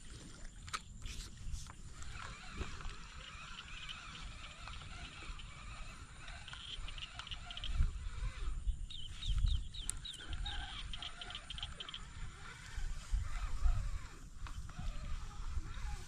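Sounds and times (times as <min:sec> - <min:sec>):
small birds chirping: 0:02.2 - 0:16.0.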